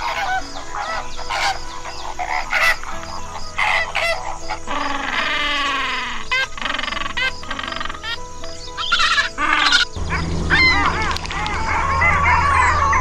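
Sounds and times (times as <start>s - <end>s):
background music with steady beat: 0.0s - 13.0s
flamingos honking: 0.0s - 13.0s
penguin braying call: 0.0s - 13.0s.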